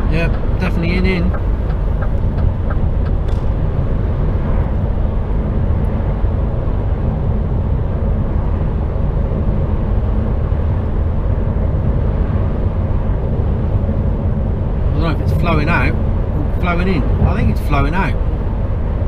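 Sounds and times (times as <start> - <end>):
lorry engine drone from inside cab: 0.0 - 19.0.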